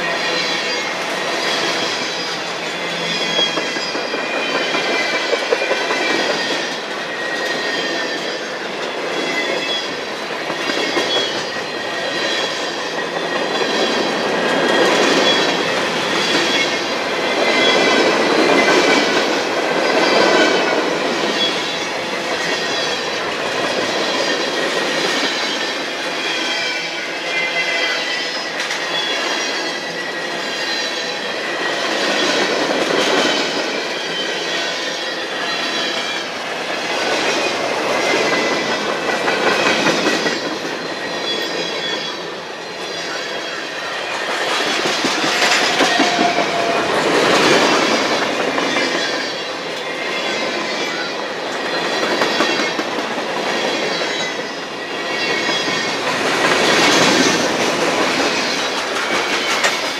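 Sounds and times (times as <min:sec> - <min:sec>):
train wheels clacking over rails: 0:00.0 - 0:59.9
wheels squealing against rail: 0:00.0 - 0:59.9.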